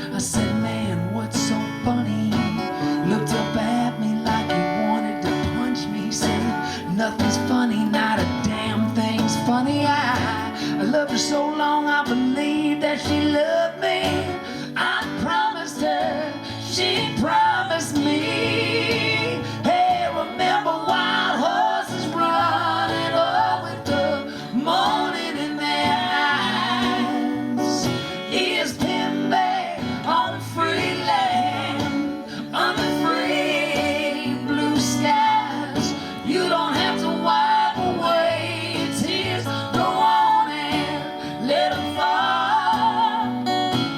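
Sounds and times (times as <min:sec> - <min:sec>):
person singing: 0:00.0 - 0:43.8
strummed acoustic guitar: 0:00.0 - 0:43.9.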